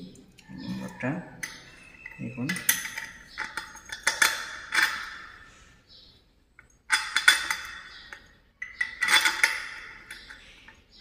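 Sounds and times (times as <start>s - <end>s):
metal bolt clinking: 0.9s - 5.5s, 6.6s - 11.0s.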